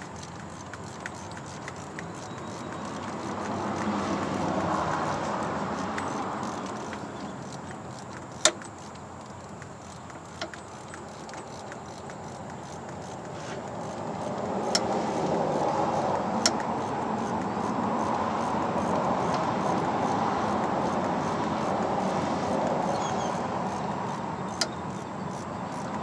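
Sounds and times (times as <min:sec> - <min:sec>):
hand tools clicking on metal: 0:00.0 - 0:22.8
rushing background noise: 0:00.0 - 0:26.0.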